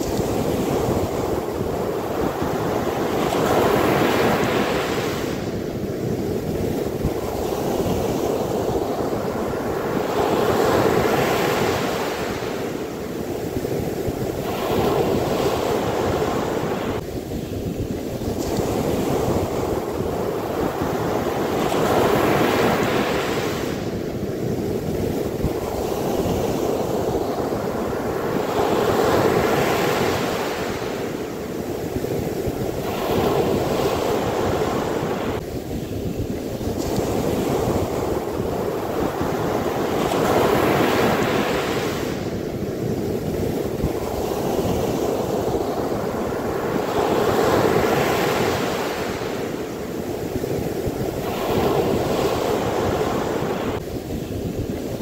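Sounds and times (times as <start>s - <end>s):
surf washing up a beach: 0.0s - 55.0s.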